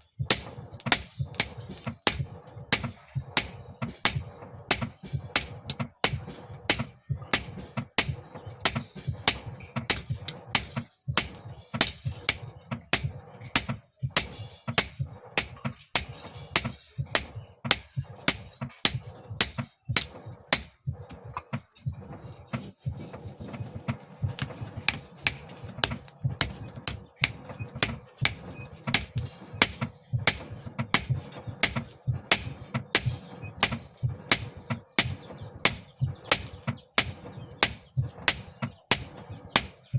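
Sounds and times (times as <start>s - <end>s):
low rumble: 0.0s - 39.9s
hammer striking steel on anvil: 0.2s - 20.8s, 24.4s - 39.8s.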